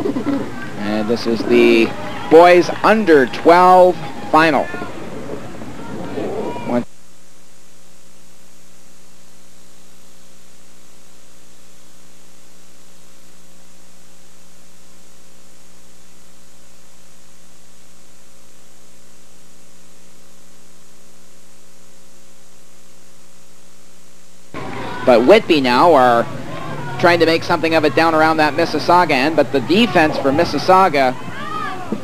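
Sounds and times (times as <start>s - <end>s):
electrical mains hum: 0.0s - 32.0s
tape hiss: 0.0s - 32.0s.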